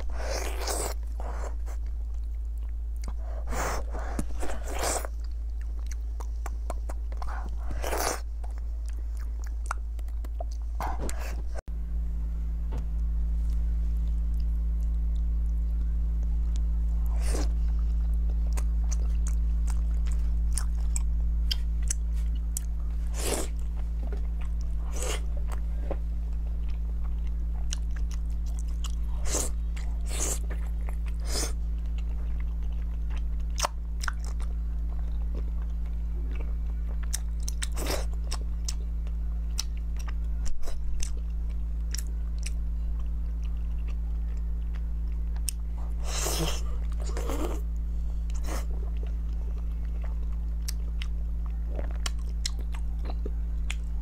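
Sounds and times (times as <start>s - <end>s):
steady low hum: 0.0s - 54.0s
chewing with wet mouth clicks: 0.4s - 10.7s, 14.0s - 25.6s, 26.3s - 47.6s, 48.3s - 54.0s.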